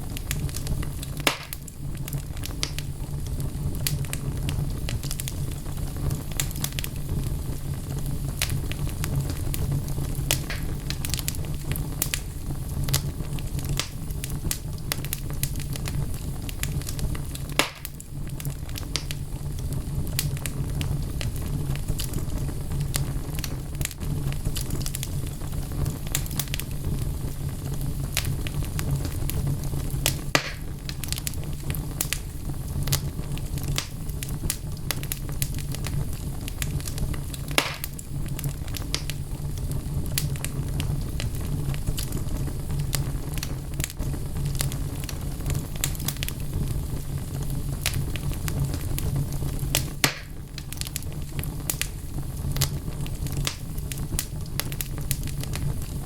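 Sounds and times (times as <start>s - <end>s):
burning logs crackling: 0.0s - 56.0s
loud fire pops: 0.0s - 56.0s
low rumble of flames: 0.0s - 56.0s.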